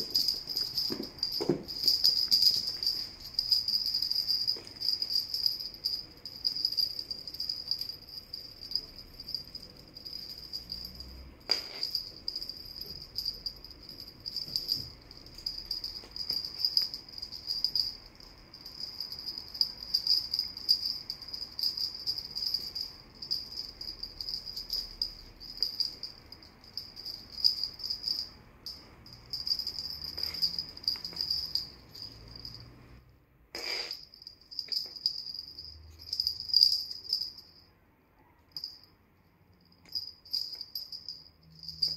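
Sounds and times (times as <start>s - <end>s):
small bells jingling: 0.0s - 32.8s, 33.6s - 37.7s, 38.5s - 41.9s.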